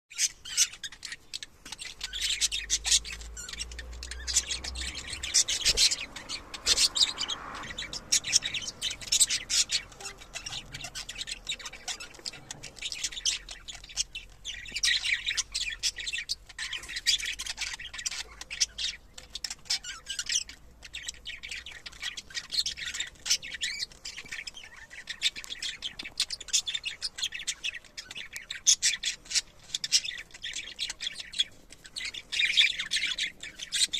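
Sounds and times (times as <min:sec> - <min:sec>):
budgerigars chattering: 0:00.1 - 0:33.9.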